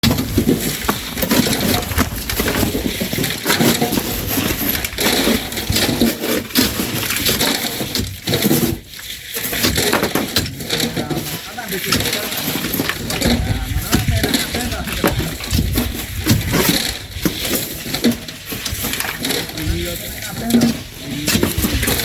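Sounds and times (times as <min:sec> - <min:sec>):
shovels scooping sand: 0:00.0 - 0:22.0.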